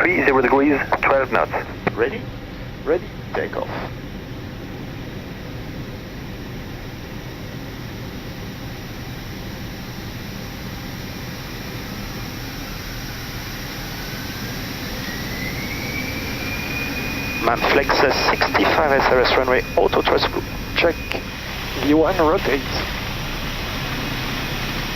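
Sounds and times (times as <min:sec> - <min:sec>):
jet engines spooling up: 0:00.0 - 0:24.9.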